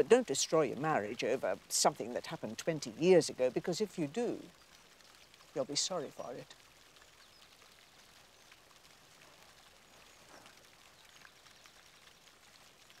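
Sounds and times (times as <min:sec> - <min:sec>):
faint ambient hiss: 0:00.0 - 0:13.0.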